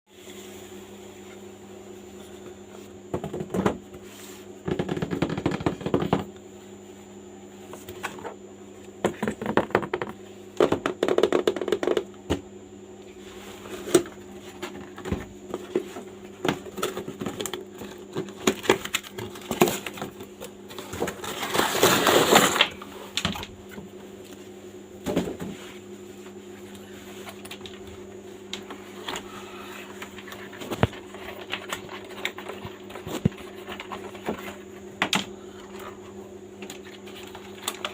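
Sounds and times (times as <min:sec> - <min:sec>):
steady electrical hum: 0:00.1 - 0:37.9.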